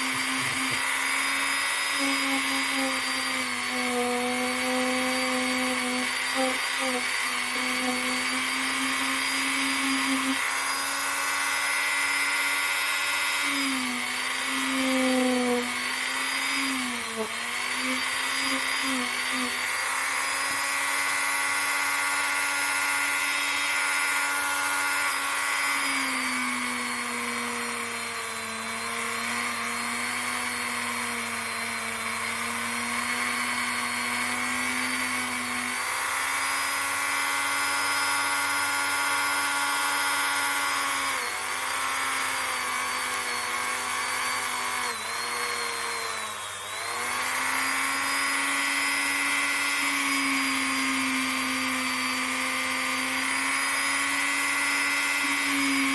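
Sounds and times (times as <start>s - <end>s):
rotary tool whining: 0.0s - 55.9s.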